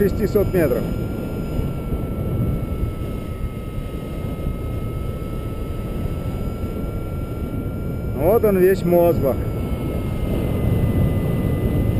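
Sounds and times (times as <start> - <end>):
wind rushing over microphone: 0.0 - 11.9.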